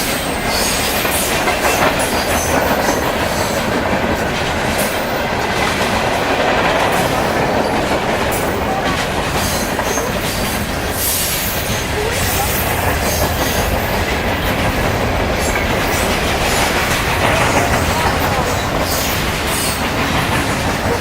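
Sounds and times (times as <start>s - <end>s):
freight train cars rumbling past: 0.0s - 21.0s
wheel clatter on rails: 0.0s - 21.0s.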